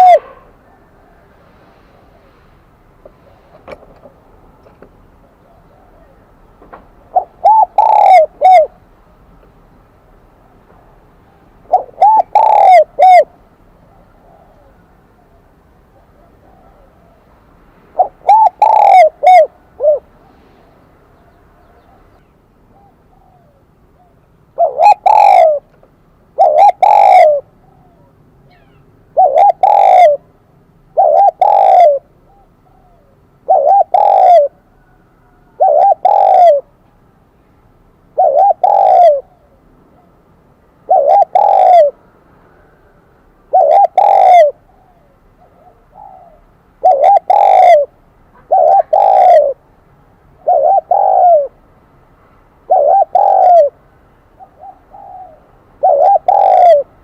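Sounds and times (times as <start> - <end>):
dove cooing: 0.0 - 8.9, 10.7 - 36.9, 38.1 - 40.2, 40.8 - 42.0, 43.4 - 49.7, 50.4 - 51.6, 52.6 - 57.0.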